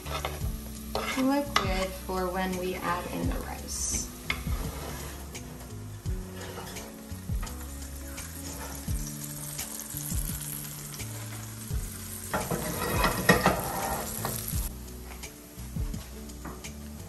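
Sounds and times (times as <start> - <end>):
background music with bass: 0.0 - 17.0
food sizzling: 0.0 - 17.0.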